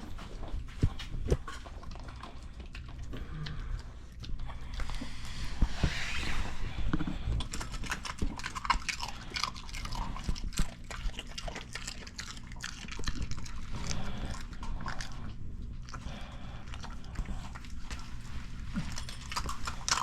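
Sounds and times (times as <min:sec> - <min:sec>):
dog chewing and crunching: 0:00.0 - 0:20.0.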